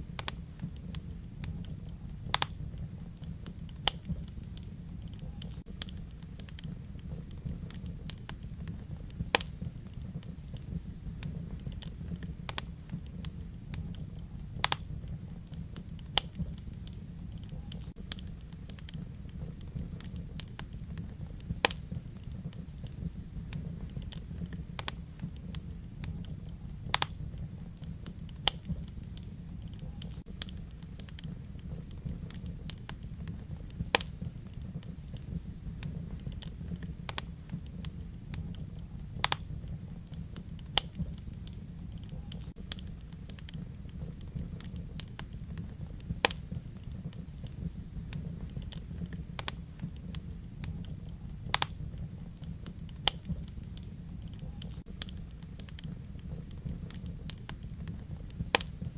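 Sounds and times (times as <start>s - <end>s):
low rumble of flames: 0.0s - 58.9s
wood fire crackling: 0.0s - 58.9s.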